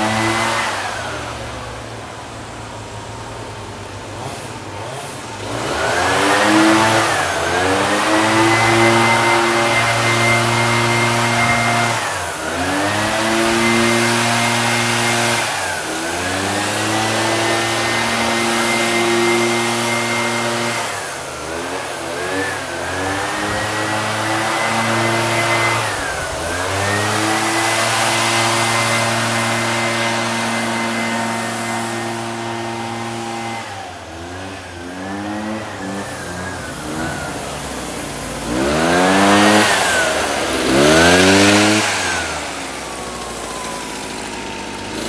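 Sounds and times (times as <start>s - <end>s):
two-stroke power tool engine revving: 0.0s - 45.0s.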